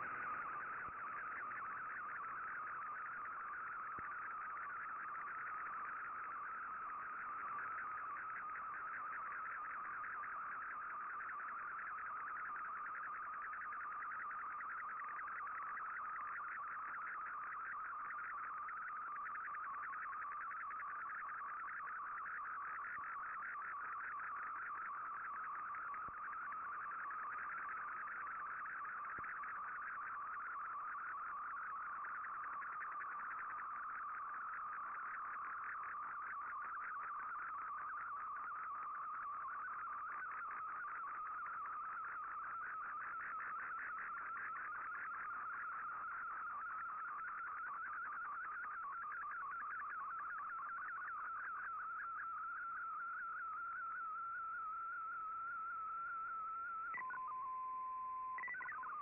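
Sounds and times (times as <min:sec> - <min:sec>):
warbling radio data signal: 0:00.0 - 0:59.0.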